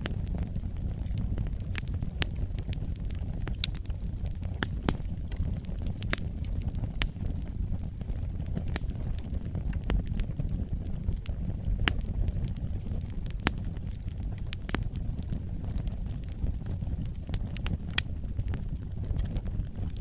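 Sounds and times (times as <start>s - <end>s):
campfire crackling and popping: 0.0s - 20.0s
fire low rumble: 0.0s - 20.0s
wood snapping in fire: 0.0s - 20.0s.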